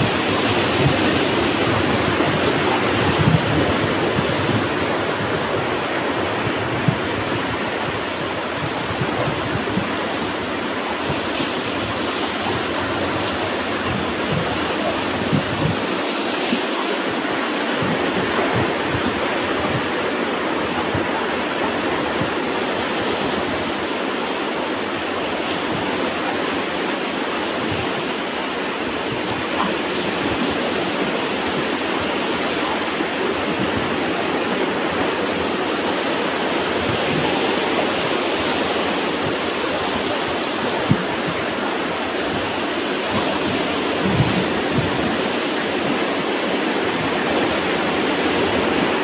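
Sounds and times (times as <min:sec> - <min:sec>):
surf washing over rocks: 0:00.0 - 0:49.0
wind on microphone: 0:00.0 - 0:49.0.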